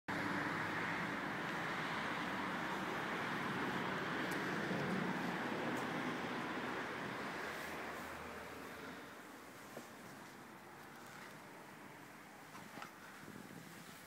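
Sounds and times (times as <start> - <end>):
rushing street traffic noise: 0.1 - 14.0.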